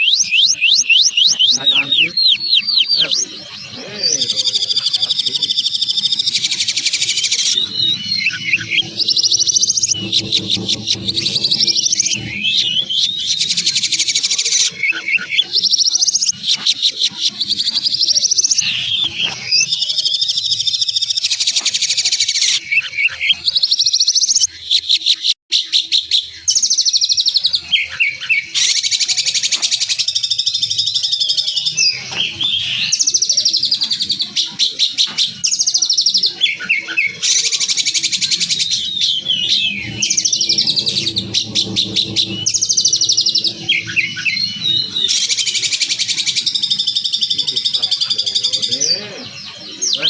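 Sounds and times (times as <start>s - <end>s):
songbird trilling: 0.0s - 50.0s.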